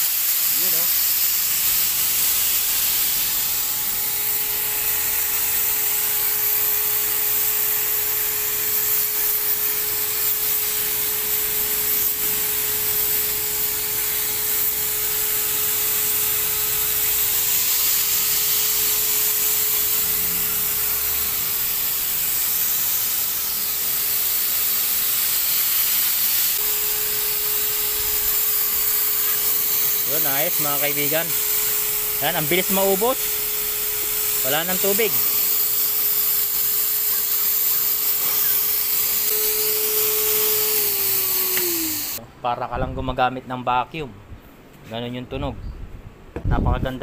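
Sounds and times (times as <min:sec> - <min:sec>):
hiss of spray nozzle: 0:00.0 - 0:42.2
paint sprayer motor whine: 0:00.0 - 0:42.2.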